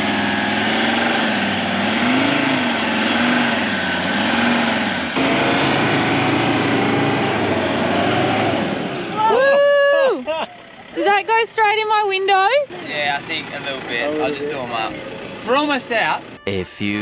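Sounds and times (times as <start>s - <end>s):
engine labouring: 0.0s - 16.5s.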